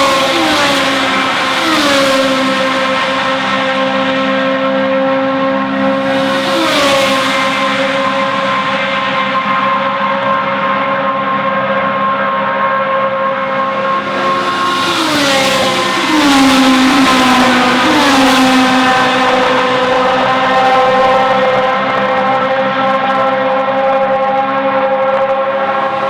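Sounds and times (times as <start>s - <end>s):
racing car engine at high revs: 0.0s - 26.0s.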